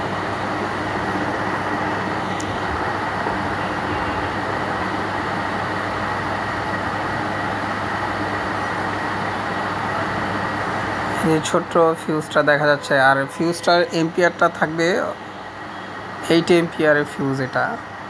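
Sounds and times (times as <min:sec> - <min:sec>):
steady rushing drone: 0:00.0 - 0:17.0.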